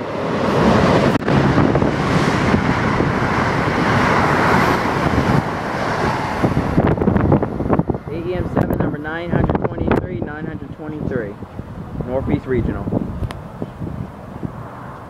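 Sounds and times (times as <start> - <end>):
train passing at speed: 0.0 - 9.6, 10.5 - 15.0.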